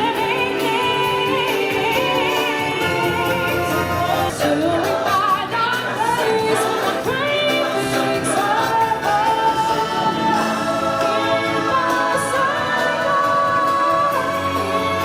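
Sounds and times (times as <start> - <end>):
voices singing with accompaniment: 0.0 - 15.0.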